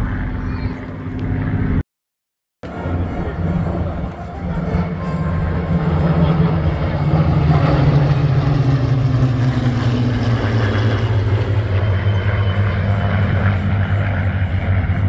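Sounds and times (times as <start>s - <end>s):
airplanes flying past droning: 0.0s - 1.8s, 2.6s - 15.0s.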